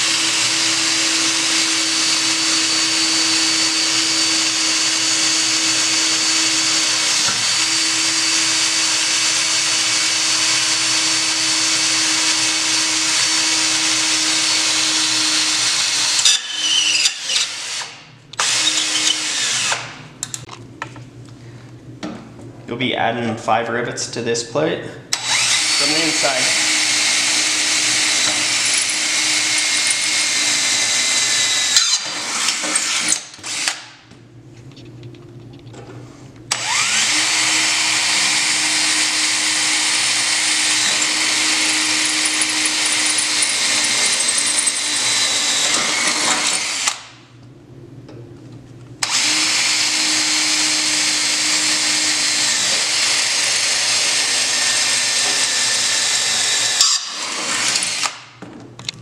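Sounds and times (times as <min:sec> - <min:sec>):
power drill drilling steel: 0:00.0 - 0:19.9, 0:25.1 - 0:33.8, 0:36.5 - 0:47.1, 0:49.0 - 0:58.2.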